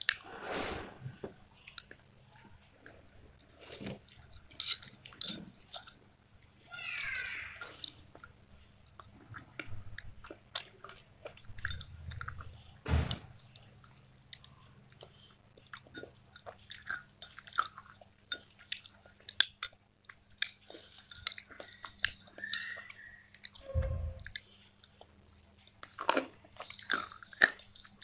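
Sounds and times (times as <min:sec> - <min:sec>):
chewing and crunching slate pencil: 0:01.6 - 0:06.1, 0:07.6 - 0:12.7, 0:13.5 - 0:23.6, 0:24.3 - 0:28.0.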